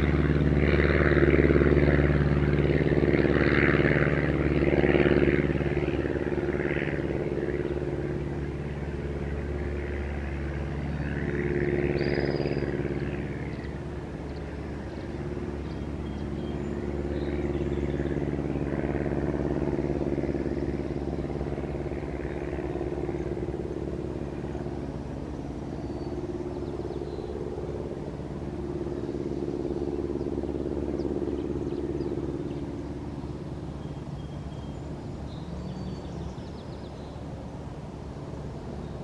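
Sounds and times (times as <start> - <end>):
low engine hum: 0.0 - 39.0.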